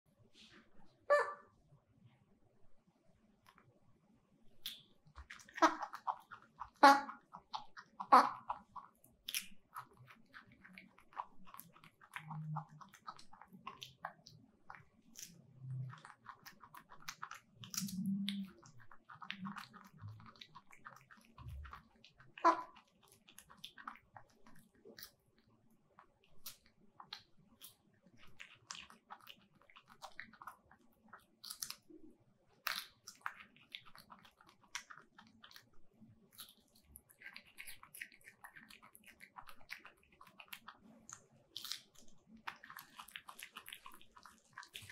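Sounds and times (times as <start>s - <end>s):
monkey chewing broccoli: 4.5s - 44.9s.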